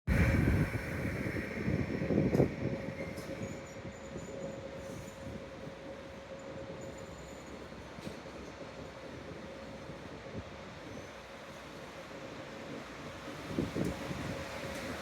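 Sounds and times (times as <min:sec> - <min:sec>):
train wheels rumbling: 0:00.1 - 0:15.0.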